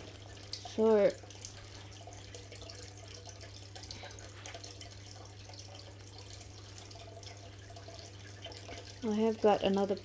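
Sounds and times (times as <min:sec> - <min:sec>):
trickle of running water: 0:00.0 - 0:10.0.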